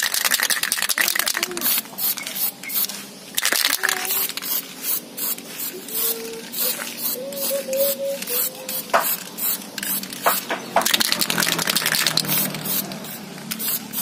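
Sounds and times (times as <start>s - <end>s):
spray paint can hissing: 0.0s - 14.0s.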